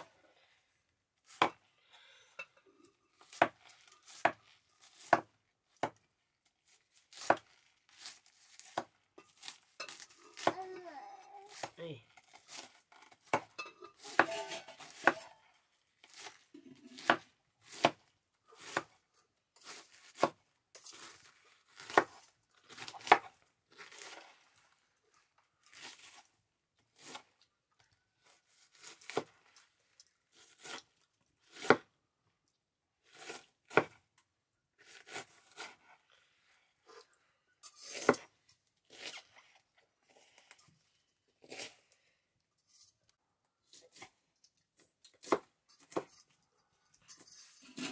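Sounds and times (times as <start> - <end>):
knife crunching through cabbage: 2.8 - 10.8, 11.4 - 27.5, 28.2 - 32.0, 33.0 - 34.1, 34.8 - 42.0, 43.6 - 46.4.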